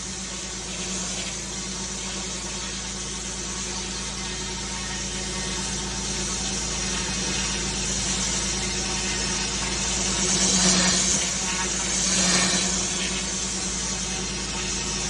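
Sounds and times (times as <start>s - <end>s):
pressure washer engine hum: 0.0s - 15.0s
water spray hissing on paving: 0.0s - 15.0s.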